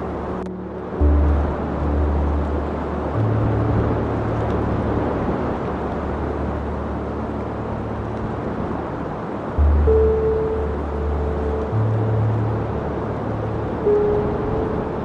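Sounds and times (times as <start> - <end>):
ambient music with low bass: 0.0 - 15.0
soft noise-like wash: 0.0 - 15.0.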